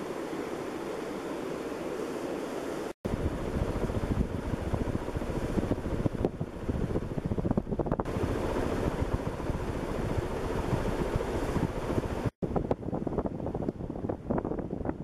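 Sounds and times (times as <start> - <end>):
fan wind buffeting microphone: 0.0 - 15.0.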